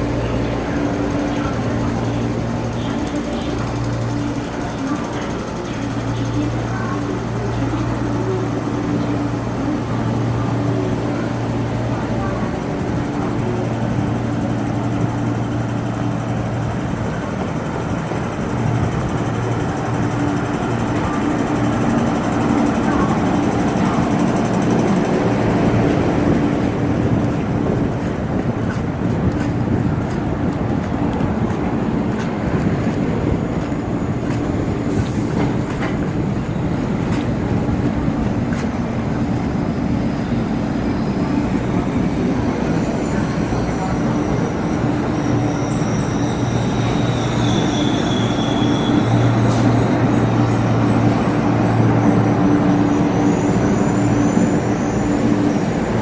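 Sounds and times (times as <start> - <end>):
electric train humming: 0.0 - 56.0.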